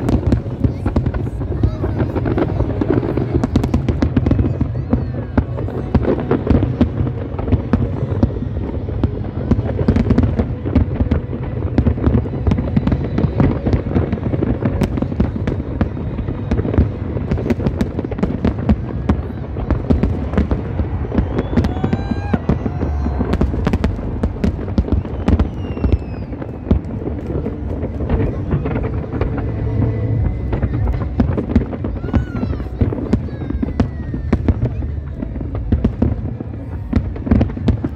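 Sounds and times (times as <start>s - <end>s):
fireworks crackling: 0.0s - 37.9s.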